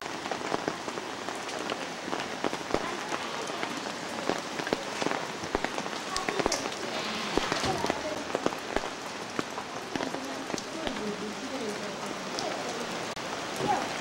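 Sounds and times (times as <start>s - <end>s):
sharp raindrops hitting close by: 0.0s - 14.0s
steady rain falling: 0.0s - 14.0s.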